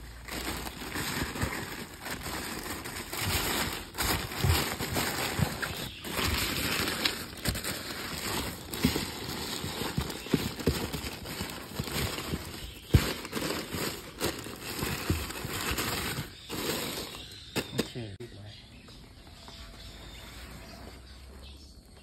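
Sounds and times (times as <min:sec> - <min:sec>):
wrapping rustling and crackling: 0:00.0 - 0:18.1.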